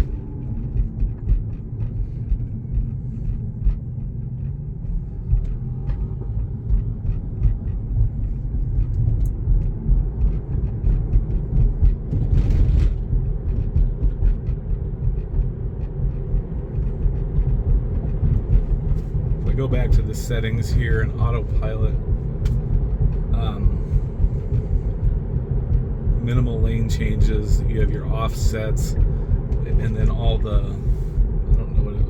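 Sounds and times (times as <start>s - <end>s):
tyres rumbling on road: 0.0s - 32.0s.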